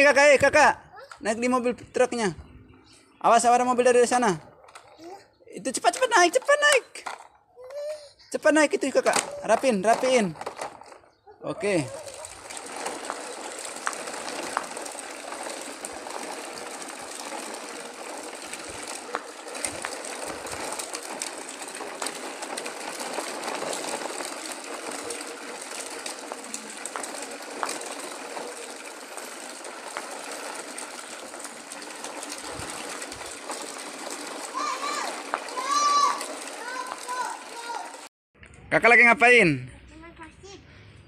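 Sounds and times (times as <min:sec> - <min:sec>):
toy wheels rolling on asphalt: 0:00.0 - 0:38.1.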